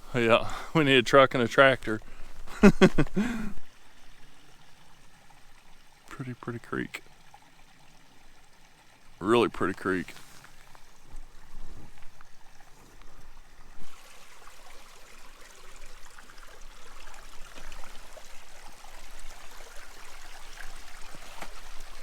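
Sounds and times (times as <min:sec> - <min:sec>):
creek running over stones: 0:00.0 - 0:22.0.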